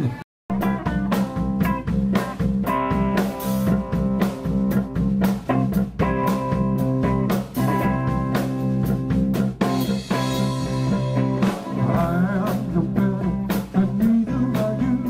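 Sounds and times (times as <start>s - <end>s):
drum kit beat: 0.0s - 15.0s
electric bass: 0.0s - 15.0s
electric guitar: 0.0s - 15.0s.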